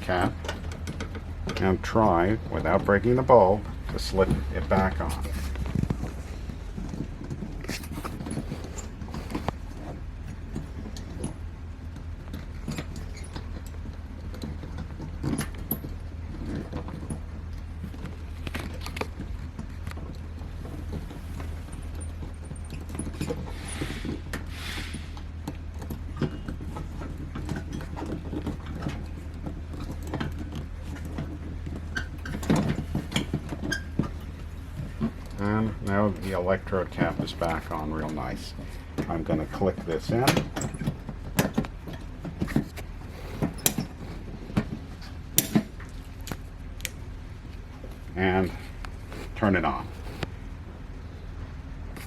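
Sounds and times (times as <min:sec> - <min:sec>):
steady low hum: 0:00.0 - 0:52.0
scraping rustle: 0:00.1 - 0:11.5, 0:16.3 - 0:51.0
small clicks taps and rustles: 0:00.1 - 0:24.5, 0:25.2 - 0:50.4.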